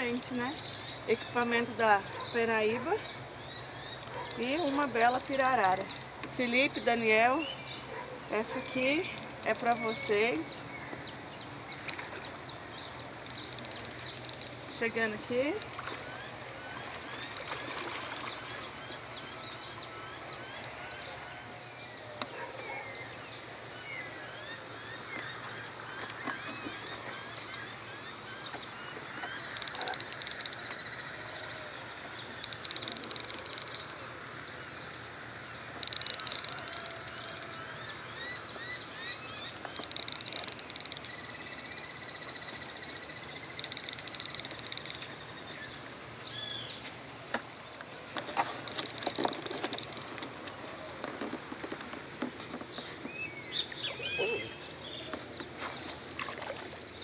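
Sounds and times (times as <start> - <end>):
rising chirping calls: 0.0 - 46.9, 52.8 - 57.0.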